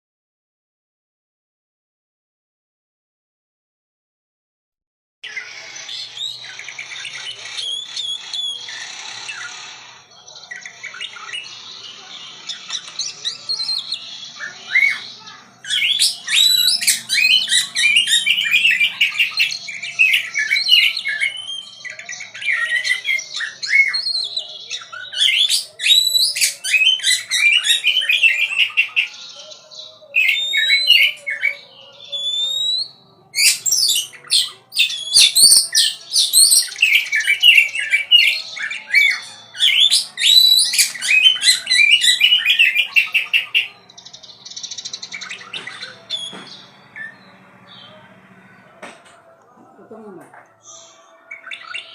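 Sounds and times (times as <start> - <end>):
songbird singing chirps and squawks: 5.2 - 51.9.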